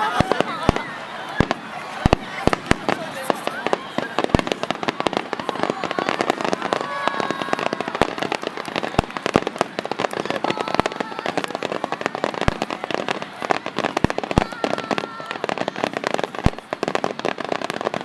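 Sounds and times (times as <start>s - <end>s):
fireworks booms: 0.0s - 18.0s
fireworks crackling: 0.0s - 18.0s.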